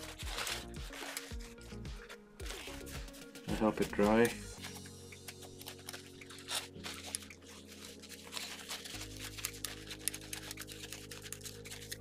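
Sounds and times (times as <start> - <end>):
paper towel rustling: 0.0 - 12.0.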